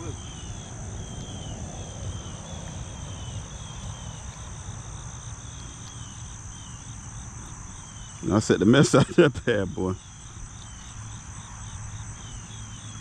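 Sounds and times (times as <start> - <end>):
insects buzzing and chirping: 0.0 - 13.0.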